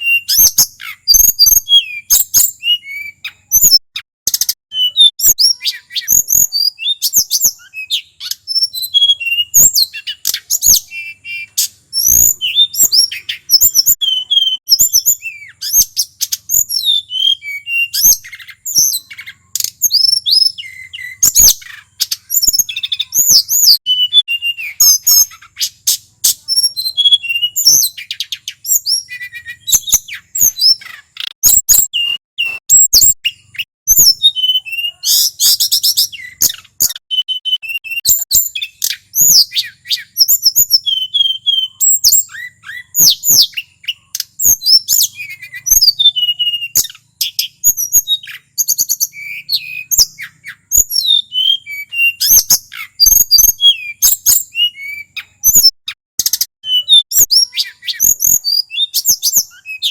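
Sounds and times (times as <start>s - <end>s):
flycatcher singing: 0.0s - 59.9s.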